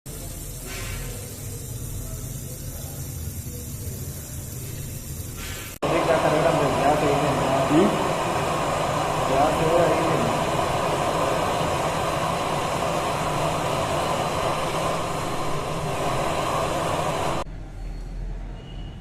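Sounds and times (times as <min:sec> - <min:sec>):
pressurised gas hissing: 0:00.1 - 0:17.4.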